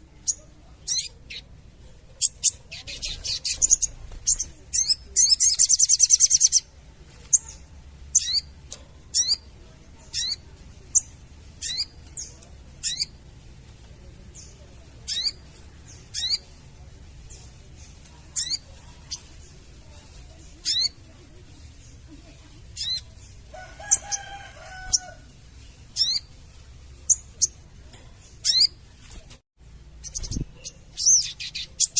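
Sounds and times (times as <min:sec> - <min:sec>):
bird chattering: 0:00.0 - 0:13.4, 0:14.3 - 0:26.4, 0:27.0 - 0:28.9, 0:30.0 - 0:31.9.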